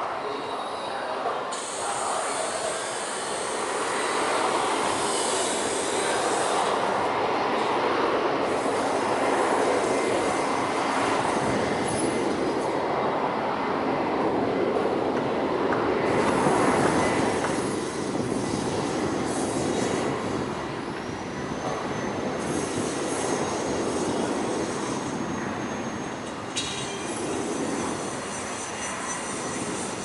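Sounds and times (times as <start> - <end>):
jet engines roaring: 1.5 - 30.0.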